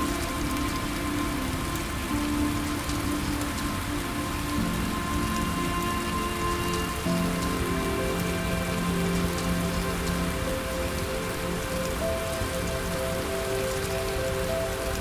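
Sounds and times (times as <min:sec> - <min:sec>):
soft music of low held notes: 0:00.0 - 0:15.0
steady rain falling: 0:00.0 - 0:15.0.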